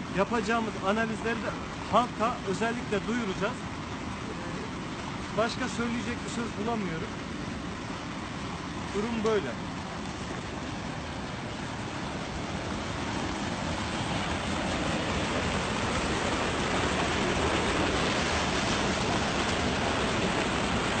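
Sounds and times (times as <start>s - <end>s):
wastewater rushing out: 0.0s - 21.0s.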